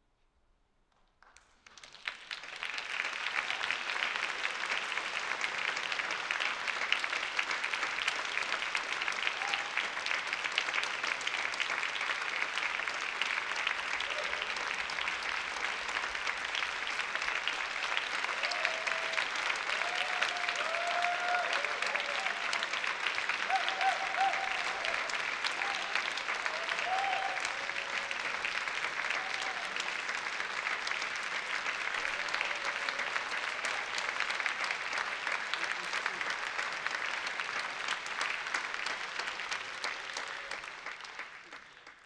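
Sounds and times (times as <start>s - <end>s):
audience applauding: 1.2s - 42.0s.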